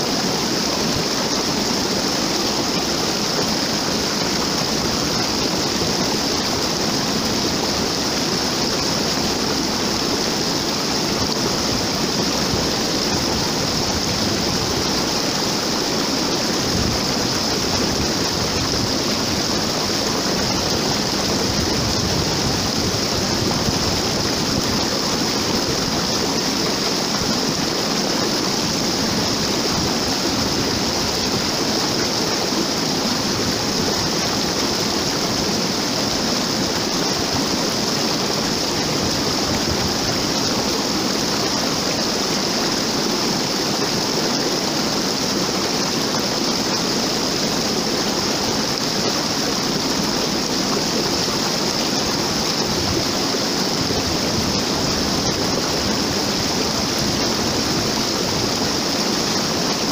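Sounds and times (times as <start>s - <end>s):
waterfall rushing into pool: 0.0s - 59.9s.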